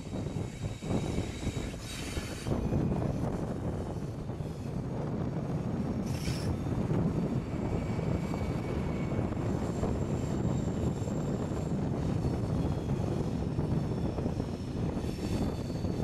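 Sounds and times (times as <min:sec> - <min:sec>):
faint high whines: 0:00.0 - 0:16.0
train engine drone: 0:00.0 - 0:16.0
train wheels rumbling on rails: 0:00.0 - 0:16.0.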